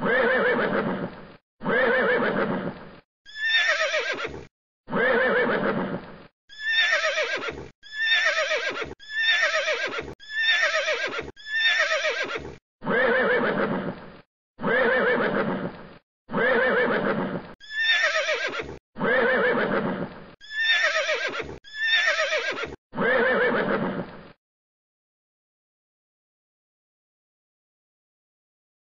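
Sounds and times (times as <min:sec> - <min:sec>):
horse whinnying: 0:00.0 - 0:14.0, 0:14.6 - 0:24.2.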